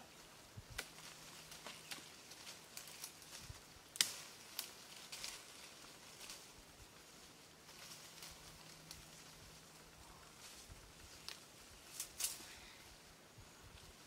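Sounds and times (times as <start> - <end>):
branches creaking and cracking: 0.0 - 14.0
leaves rustling: 0.0 - 14.0.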